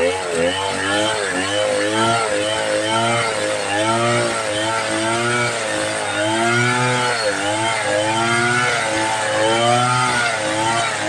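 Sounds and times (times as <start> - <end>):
chainsaw cutting timber: 0.0 - 11.0.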